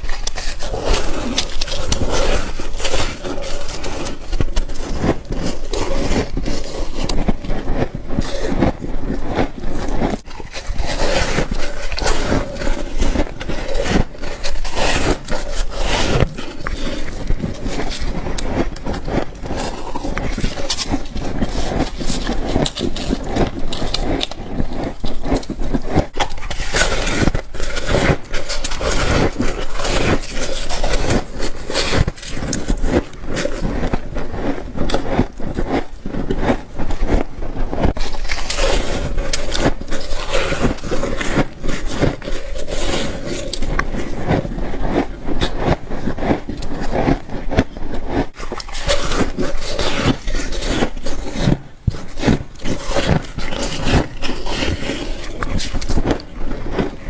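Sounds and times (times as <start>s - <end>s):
chewing crunchy frost: 0.0s - 57.0s.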